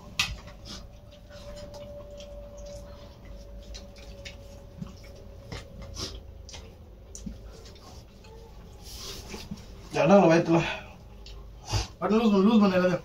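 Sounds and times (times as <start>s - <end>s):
chewing: 0.0s - 10.0s, 11.0s - 12.0s
faint hum: 0.0s - 13.0s.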